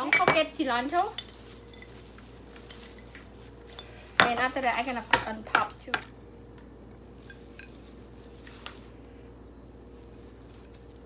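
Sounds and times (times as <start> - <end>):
steady low hum: 0.0 - 11.0
soft squishing of salad: 0.8 - 11.0.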